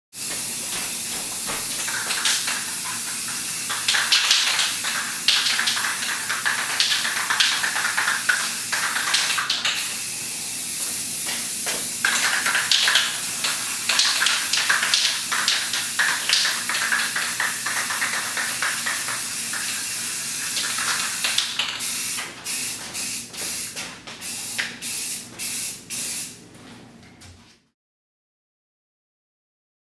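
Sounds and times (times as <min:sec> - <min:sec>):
aerosol spray can hissing: 0:00.2 - 0:26.4.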